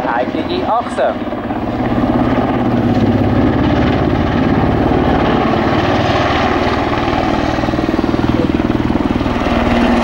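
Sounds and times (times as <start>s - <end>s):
helicopter rotor chopping overhead: 0.0s - 10.0s.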